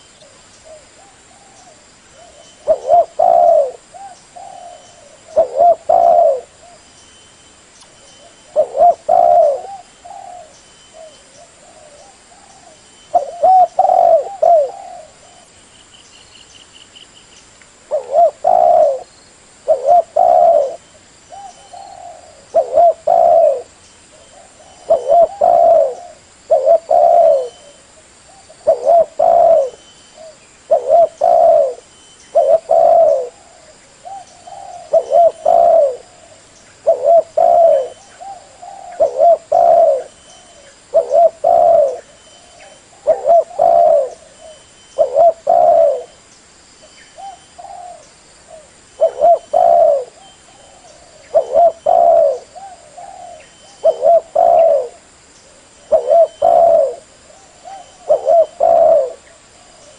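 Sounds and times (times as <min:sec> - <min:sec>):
dove cooing: 0:00.0 - 0:06.8, 0:08.2 - 0:15.5, 0:17.9 - 0:46.2, 0:47.1 - 0:59.9.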